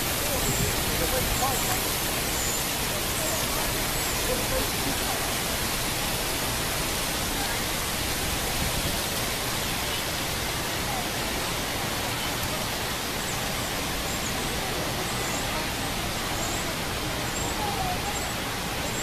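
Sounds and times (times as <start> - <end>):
fountain water splashing: 0.0 - 19.0.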